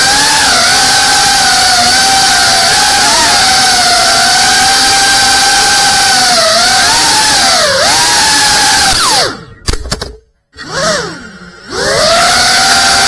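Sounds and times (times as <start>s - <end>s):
drone motors whining: 0.0s - 9.8s, 10.6s - 13.0s.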